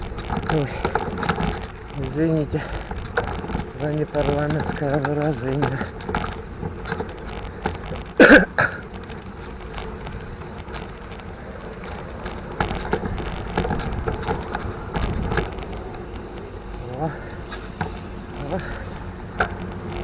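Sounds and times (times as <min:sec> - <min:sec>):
wind rumble on microphone: 0:00.0 - 0:08.2, 0:08.8 - 0:20.0
bike clicks and rattles: 0:00.0 - 0:20.0.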